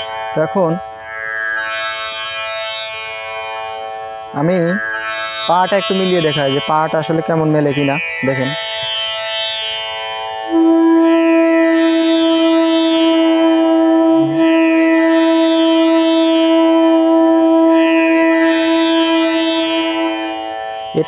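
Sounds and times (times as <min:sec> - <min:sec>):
flute holding steady note: 0:00.0 - 0:21.0
plucked tanpura drone: 0:00.0 - 0:21.0.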